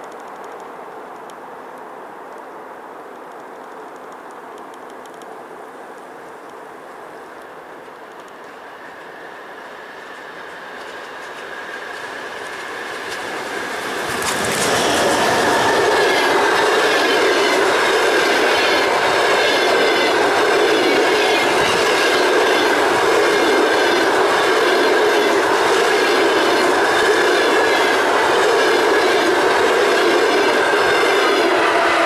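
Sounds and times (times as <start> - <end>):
train wheels rushing on rail: 3.0 - 32.0.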